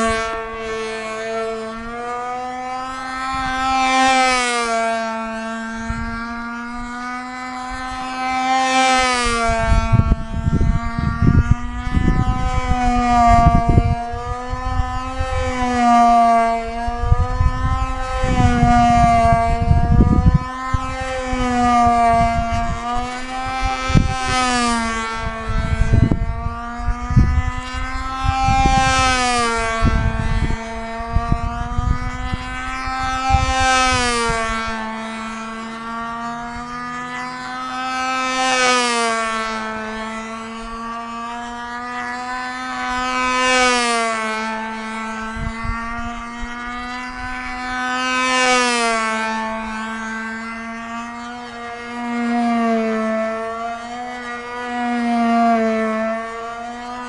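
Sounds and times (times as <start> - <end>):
model plane engine whining: 0.0 - 57.0
wind rumbling on microphone: 0.0 - 57.0.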